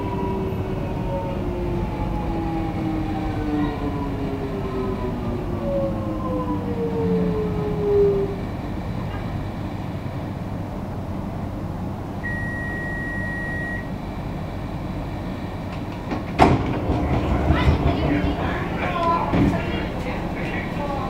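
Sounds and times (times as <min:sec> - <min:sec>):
train traction motor whine: 0:00.0 - 0:21.0
train wheels rumbling on track: 0:00.0 - 0:21.0.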